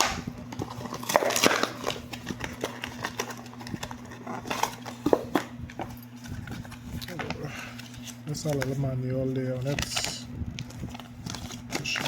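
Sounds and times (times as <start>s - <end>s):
packaging clicks and rustles: 0.0s - 12.0s
steady low hum: 0.0s - 12.0s.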